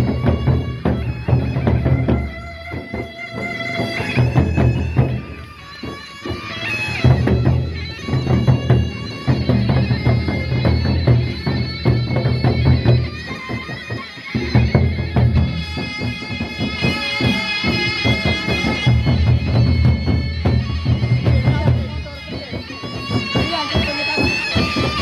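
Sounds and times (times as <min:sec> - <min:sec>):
drum ensemble playing: 0:00.0 - 0:25.0
heavy low drum beats: 0:00.0 - 0:25.0
sharp percussion strokes: 0:00.0 - 0:25.0.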